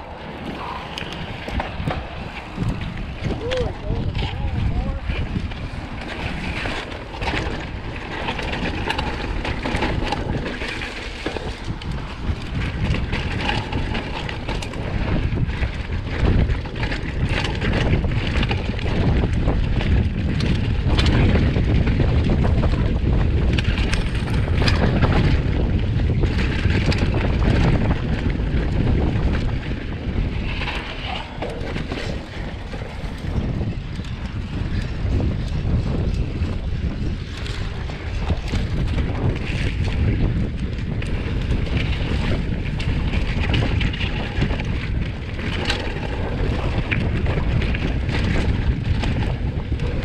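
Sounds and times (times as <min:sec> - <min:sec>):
bike knocking and rattling: 0:00.0 - 0:50.0
tyres on dirt and rocks: 0:00.0 - 0:50.0
wind rushing over microphone: 0:00.0 - 0:50.0.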